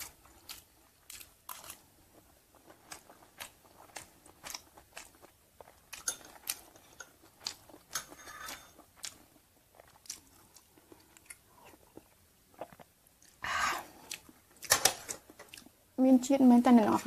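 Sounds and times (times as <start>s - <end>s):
crunchy chewing: 0.0s - 15.7s.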